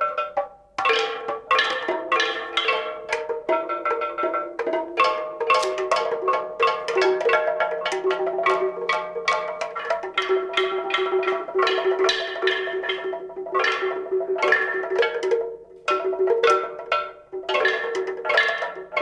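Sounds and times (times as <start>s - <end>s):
tuned struck percussion ringing: 0.0s - 19.0s.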